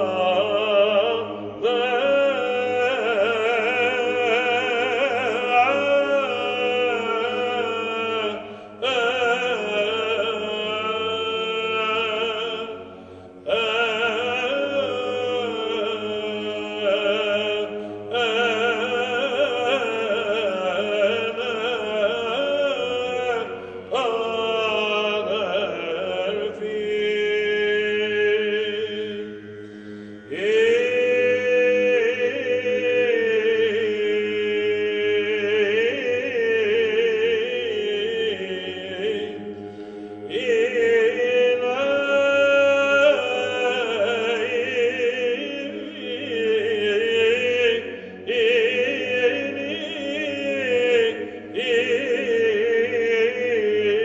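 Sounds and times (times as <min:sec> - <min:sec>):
held vocal drone: 0:00.0 - 0:54.0.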